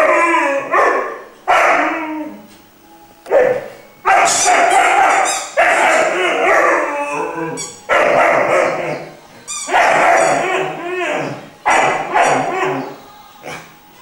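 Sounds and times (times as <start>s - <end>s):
puppy howling: 0.0s - 2.5s, 3.3s - 13.7s.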